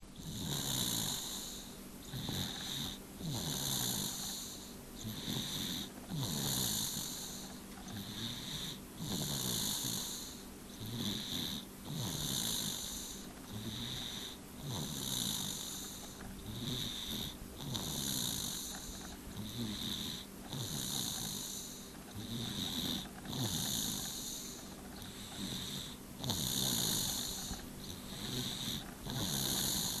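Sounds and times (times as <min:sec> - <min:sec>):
child snoring: 0:00.2 - 0:30.0.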